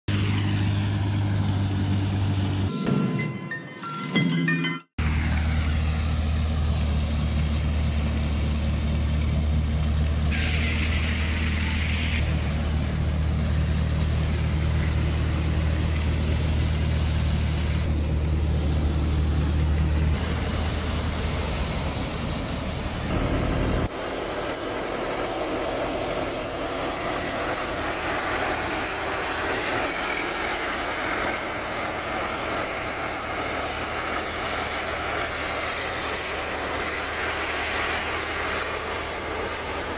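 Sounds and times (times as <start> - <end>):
tractor diesel engine running: 0.1 - 3.0, 4.1 - 39.9
hissing rush: 5.0 - 39.9.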